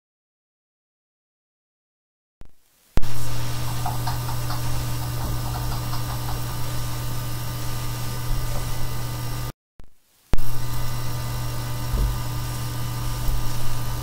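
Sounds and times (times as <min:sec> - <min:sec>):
low hum with hiss: 0:02.4 - 0:14.0.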